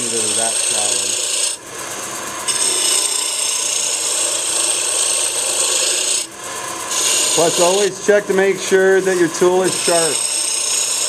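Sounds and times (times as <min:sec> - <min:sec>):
gouge scraping wood on lathe: 0:00.0 - 0:01.6, 0:02.5 - 0:11.0.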